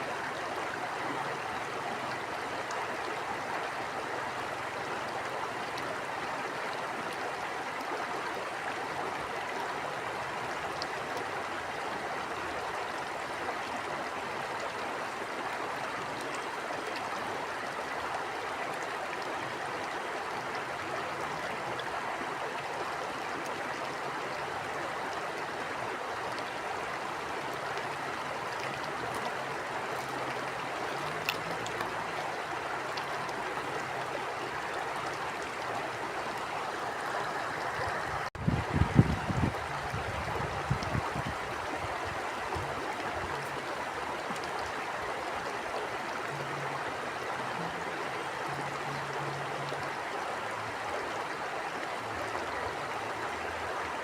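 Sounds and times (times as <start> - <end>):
stream water flowing over rocks: 0.0 - 54.0.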